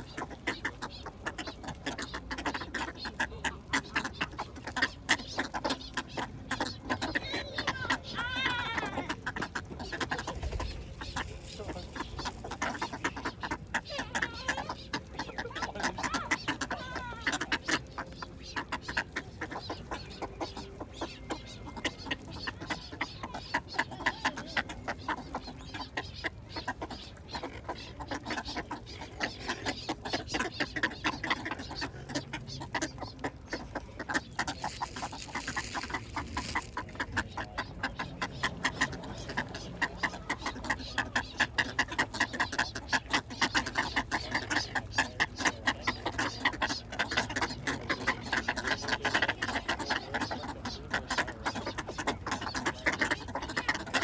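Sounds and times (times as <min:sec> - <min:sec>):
ducks calling: 0:00.0 - 0:54.0.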